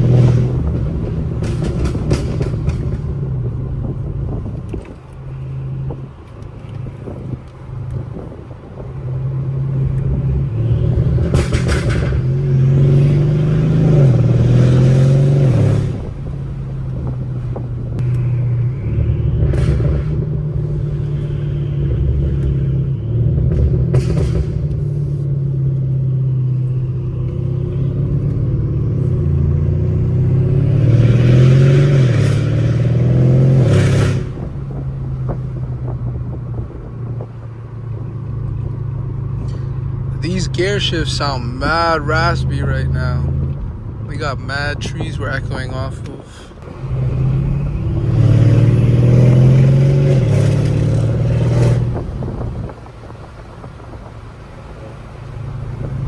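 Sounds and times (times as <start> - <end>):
car engine accelerating hard: 0.0 - 56.0
raspy gear shifts: 0.0 - 56.0.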